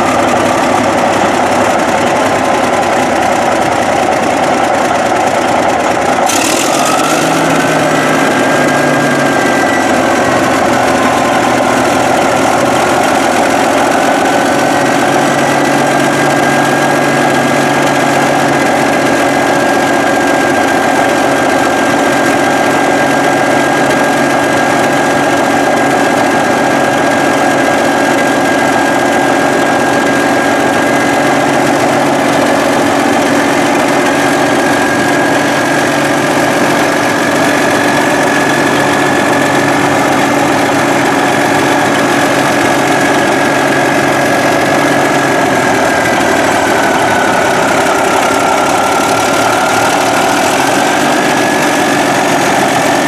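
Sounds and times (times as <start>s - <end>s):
bulldozer diesel engine running: 0.0s - 53.0s
high whine: 0.0s - 53.0s.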